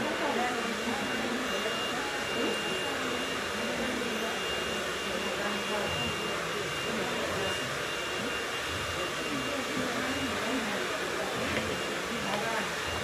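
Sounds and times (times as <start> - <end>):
faint high whine: 0.0 - 13.0
people talking indistinctly: 0.0 - 13.0.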